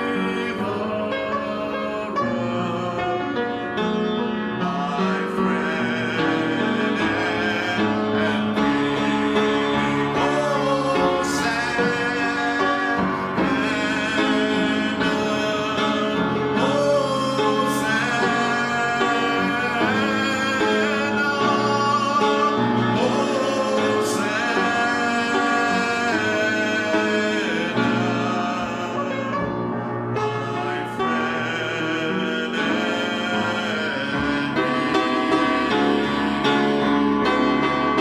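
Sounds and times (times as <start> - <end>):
band playing worship music: 0.0 - 38.0
voices singing: 0.0 - 38.0.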